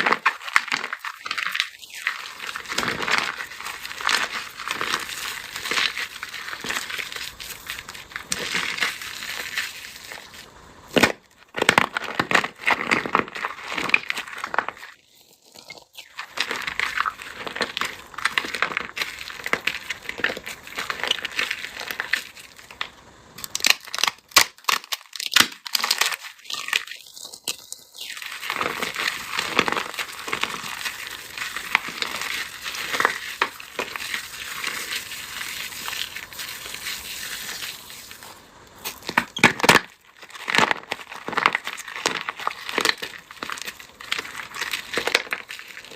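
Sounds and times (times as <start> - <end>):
dried material crushed by hand: 0.0 - 45.9.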